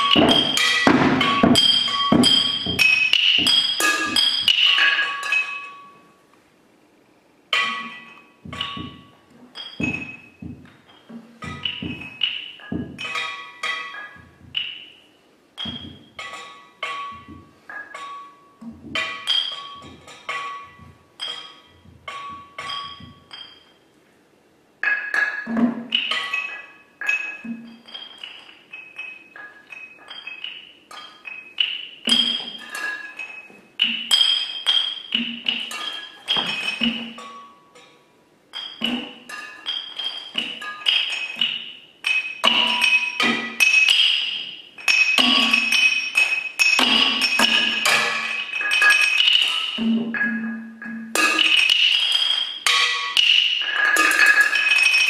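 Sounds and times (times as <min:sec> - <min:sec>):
sticks striking bottles and drums: 0:00.0 - 0:06.2, 0:07.5 - 0:23.8, 0:24.8 - 0:55.0.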